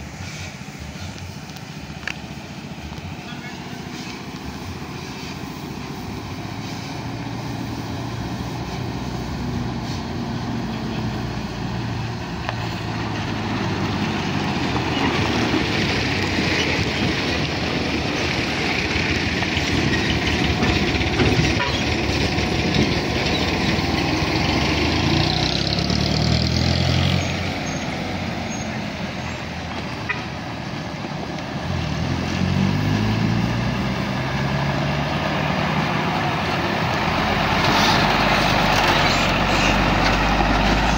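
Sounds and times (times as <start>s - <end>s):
heavy diesel engine under load: 0.0s - 40.9s.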